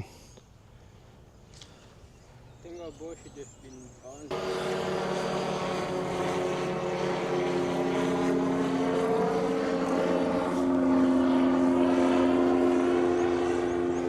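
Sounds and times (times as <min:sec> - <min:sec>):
microlight aircraft flying overhead: 0:02.3 - 0:14.0.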